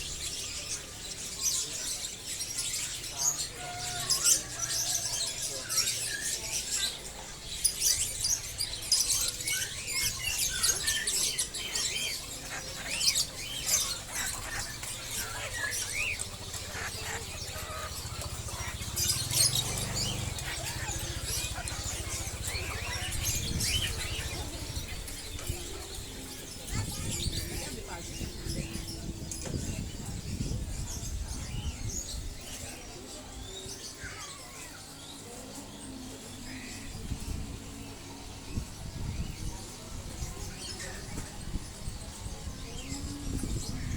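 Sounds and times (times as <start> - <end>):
small birds chirping and twittering: 0.0 - 43.9.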